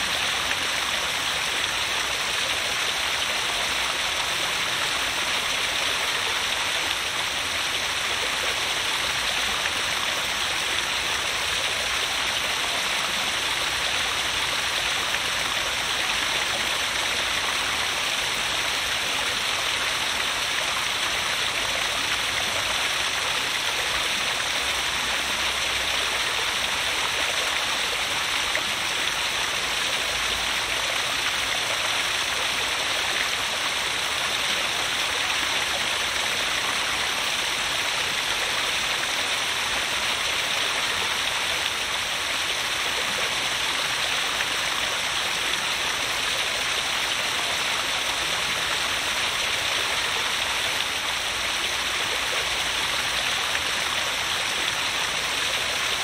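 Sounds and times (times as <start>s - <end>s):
waterfall splashing over rocks: 0.0s - 56.0s.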